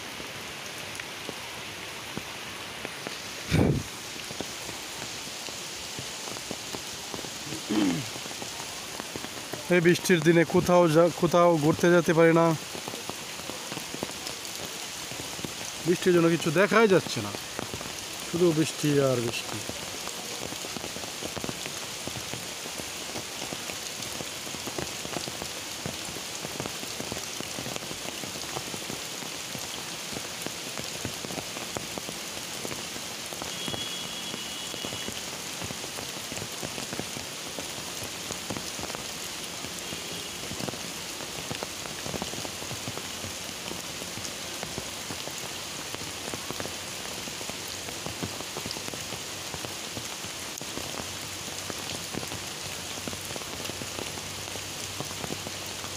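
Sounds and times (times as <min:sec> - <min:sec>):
rain drumming on umbrella: 0:00.0 - 0:55.9
rain falling into water: 0:00.0 - 0:55.9.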